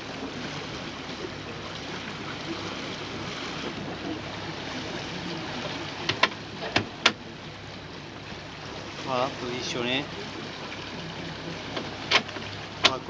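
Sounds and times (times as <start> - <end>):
boat motor running: 0.0 - 13.0
water noise: 0.0 - 13.0.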